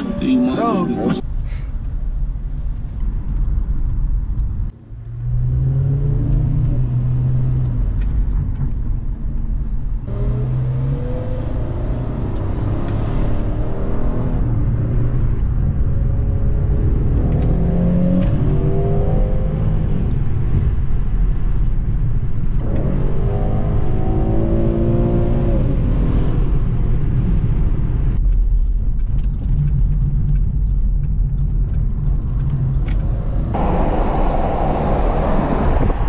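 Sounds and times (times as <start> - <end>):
road noise inside car: 0.0 - 36.0
car engine accelerating: 3.4 - 28.2, 29.2 - 36.0.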